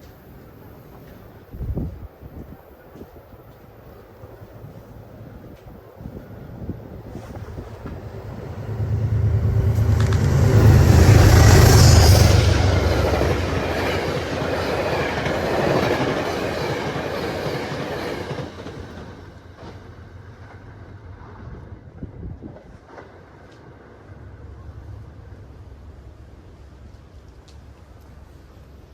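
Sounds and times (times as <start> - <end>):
train passing: 3.7 - 28.9.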